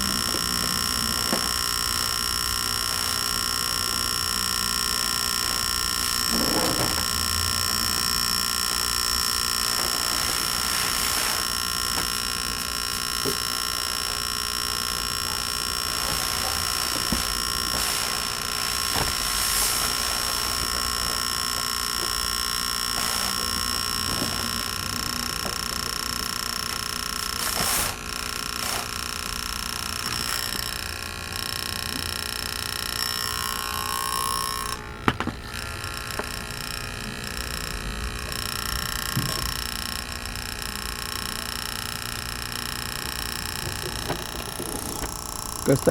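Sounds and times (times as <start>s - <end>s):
air pump motor whine: 0.0s - 45.9s.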